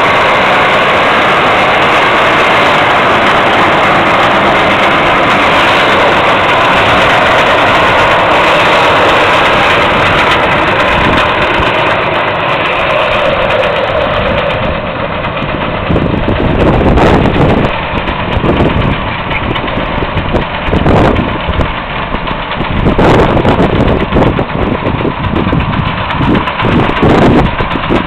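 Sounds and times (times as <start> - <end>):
rumbling bumps: 0.0 - 28.0
tractor engine and baler running: 0.0 - 28.0.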